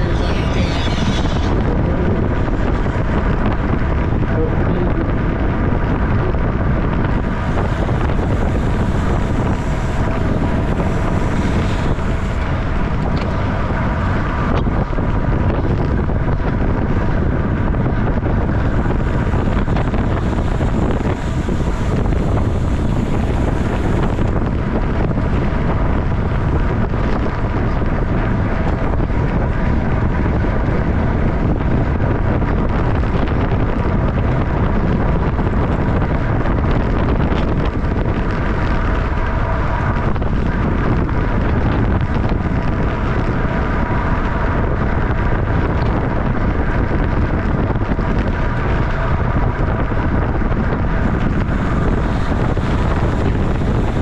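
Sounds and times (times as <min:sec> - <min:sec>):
wind rumbling over microphone: 0:00.0 - 0:54.0.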